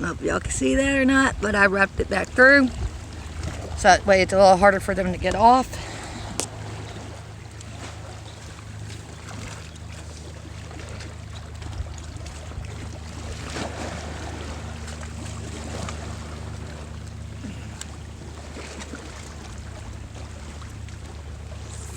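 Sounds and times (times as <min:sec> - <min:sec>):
steady low hum: 0:00.0 - 0:21.9
water lapping: 0:00.0 - 0:21.9.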